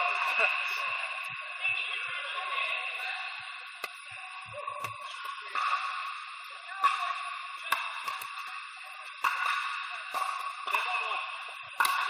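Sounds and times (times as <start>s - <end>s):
indoor hall background din: 0.0s - 12.0s.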